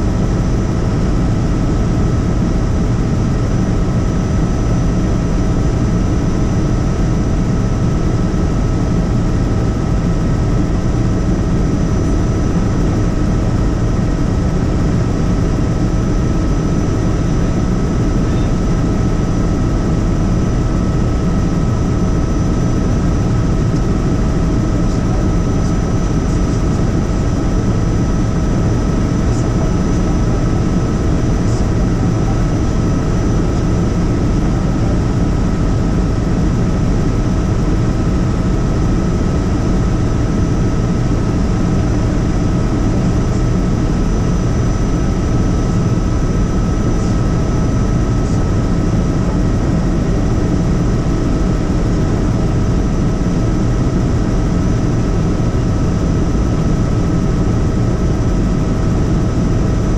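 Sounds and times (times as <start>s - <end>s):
helicopter rotor and engine rumble: 0.0s - 59.9s.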